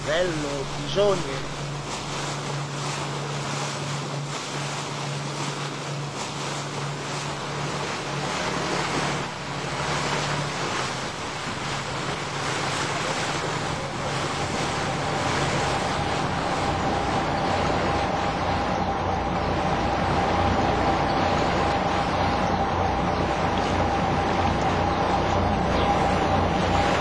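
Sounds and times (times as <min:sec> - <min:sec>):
ferry engine hum: 0:00.0 - 0:27.0
steady high-pitched whine: 0:00.0 - 0:27.0
water rushing along hull: 0:00.0 - 0:27.0.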